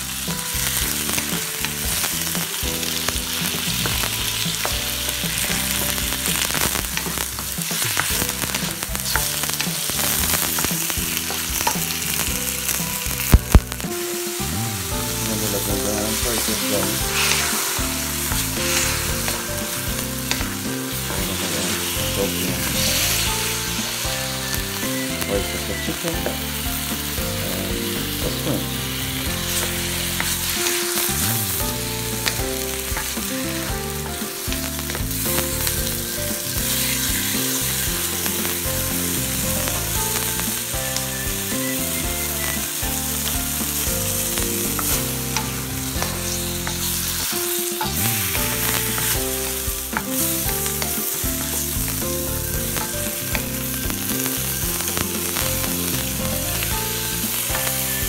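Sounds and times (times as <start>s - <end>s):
food sizzling in a wok: 0.0s - 58.0s
wooden spatula stirring: 0.2s - 58.0s.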